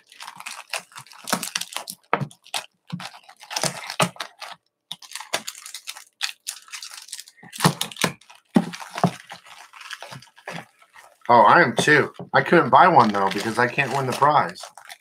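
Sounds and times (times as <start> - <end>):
packaging tearing and crinkling: 0.0 - 11.3, 12.8 - 15.0.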